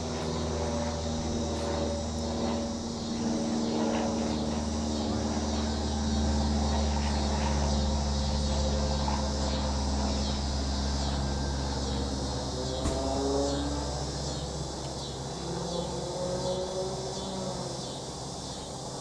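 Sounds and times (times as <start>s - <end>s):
insects chirring: 0.0s - 19.0s
light aircraft droning overhead: 0.0s - 19.0s.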